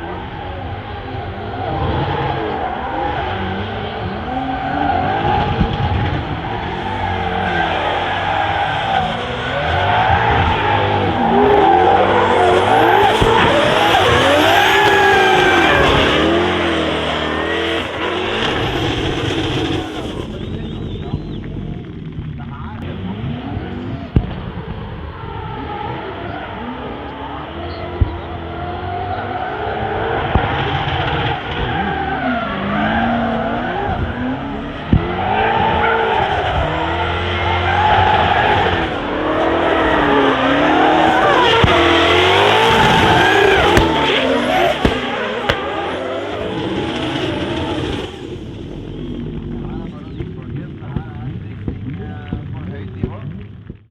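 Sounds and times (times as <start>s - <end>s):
tyre squeal and skidding: 0.0s - 21.9s, 25.3s - 50.4s
car engine revving hard: 0.0s - 53.1s.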